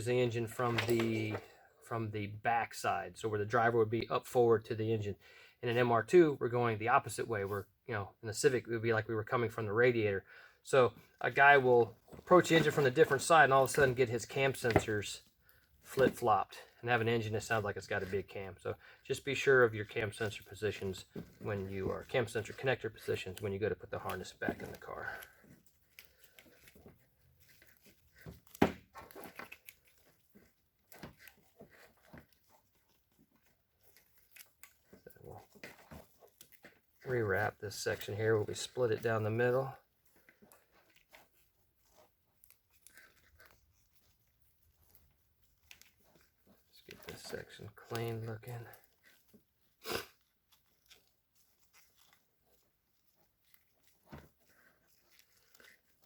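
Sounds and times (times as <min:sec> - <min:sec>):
tape crinkling and rustling: 0:00.0 - 0:05.1, 0:05.8 - 0:56.0.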